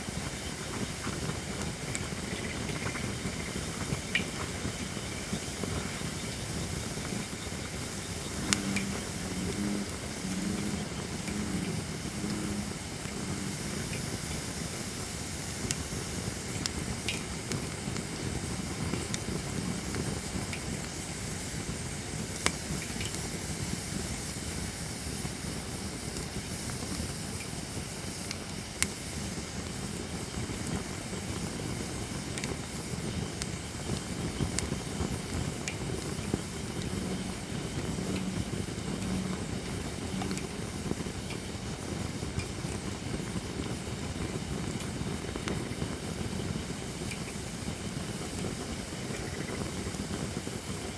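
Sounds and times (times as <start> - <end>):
campfire flame hissing: 0.0 - 50.9.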